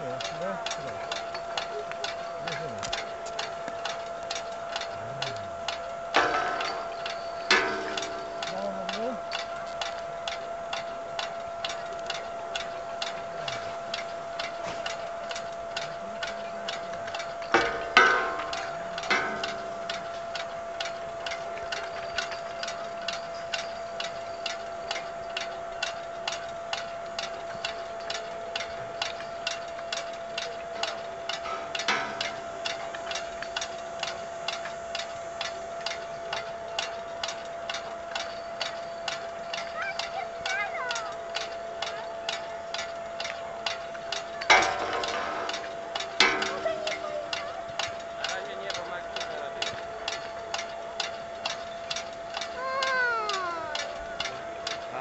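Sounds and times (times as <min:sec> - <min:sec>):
regular mechanical ticking: 0:00.0 - 0:55.0
steady hum: 0:00.0 - 0:55.0.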